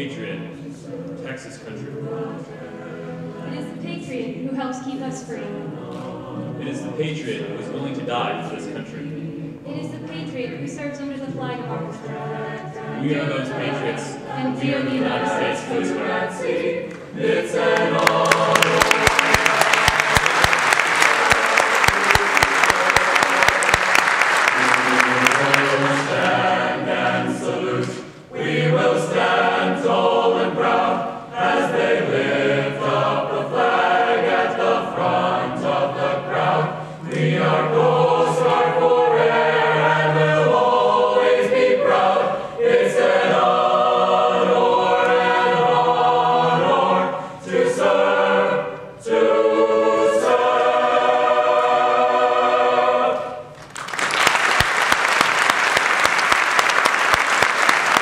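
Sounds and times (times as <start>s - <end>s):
mixed choir singing: 0.0s - 54.3s.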